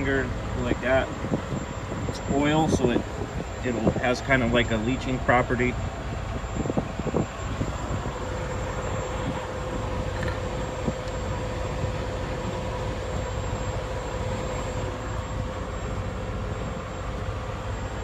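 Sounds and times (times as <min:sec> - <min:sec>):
diesel truck engines idling: 0:00.0 - 0:18.0
faint steady whine: 0:00.0 - 0:18.0.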